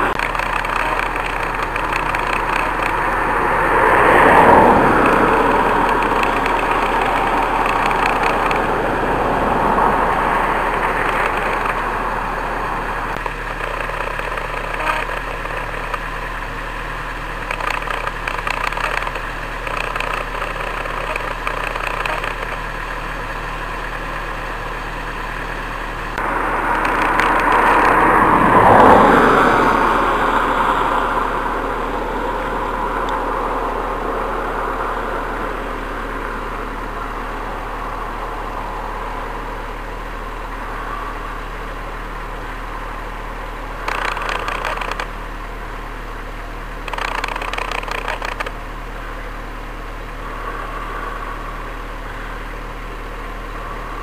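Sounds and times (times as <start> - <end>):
quad bike engines running: 0.0 - 54.0.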